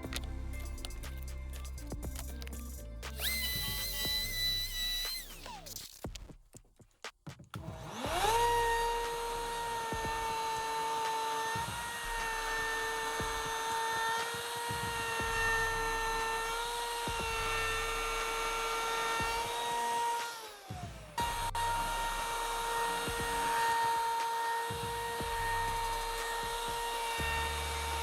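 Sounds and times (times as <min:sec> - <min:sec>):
electric wood router whining: 0:03.2 - 0:05.7, 0:07.8 - 0:28.0.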